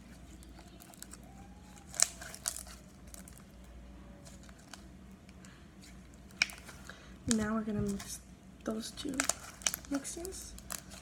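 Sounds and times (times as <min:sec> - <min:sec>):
sticky slime squishing: 0:00.0 - 0:11.0.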